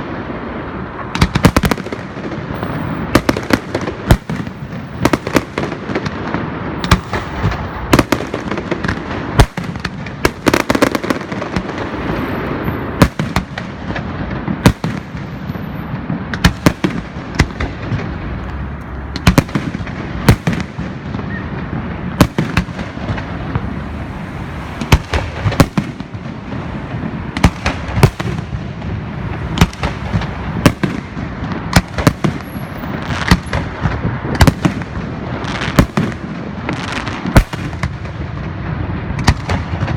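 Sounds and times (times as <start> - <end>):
fireworks crackle: 0.0 - 39.9.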